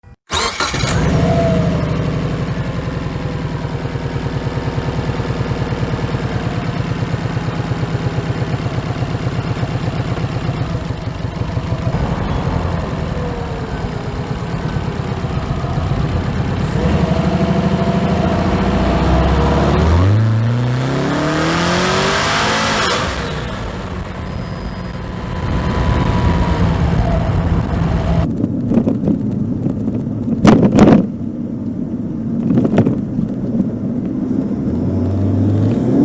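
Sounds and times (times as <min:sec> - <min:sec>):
car engine idling and revving: 0:00.3 - 0:28.4, 0:33.4 - 0:36.0.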